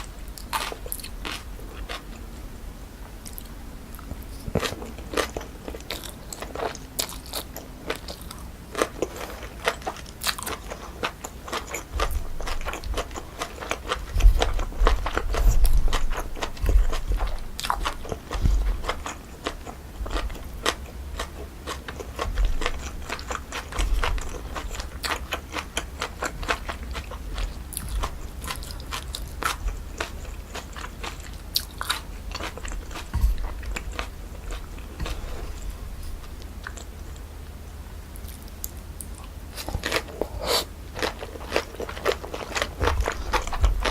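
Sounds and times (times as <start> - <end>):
crunchy chewing: 0.0 - 2.3, 3.2 - 43.9.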